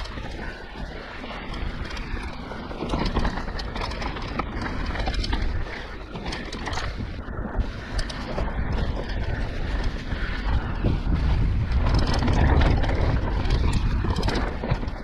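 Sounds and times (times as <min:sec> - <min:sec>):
bike rattling and clicking: 0:00.0 - 0:15.0
tyres rolling over dirt: 0:00.0 - 0:15.0
wind rumbling on microphone: 0:00.0 - 0:15.0.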